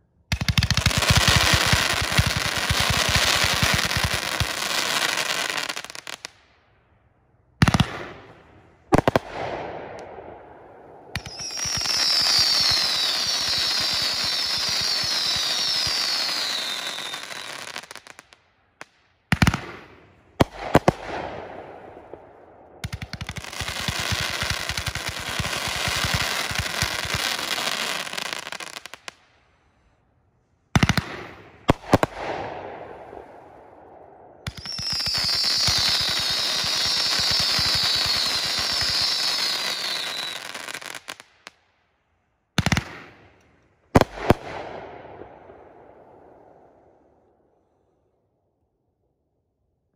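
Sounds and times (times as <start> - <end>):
firework volley and crackle: 0.0 - 48.4.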